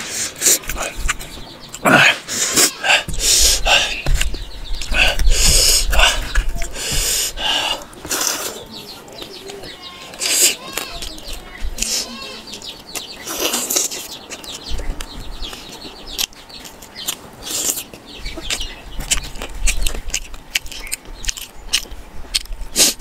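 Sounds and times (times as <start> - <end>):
wet chewing and lip-smacking: 2.5 - 23.0.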